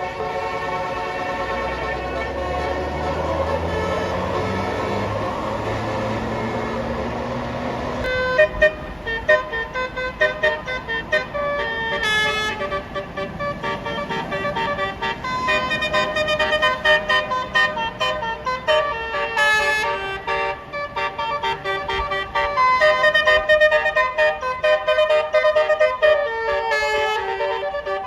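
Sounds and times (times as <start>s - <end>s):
bus musical horn tune: 0.0s - 28.0s.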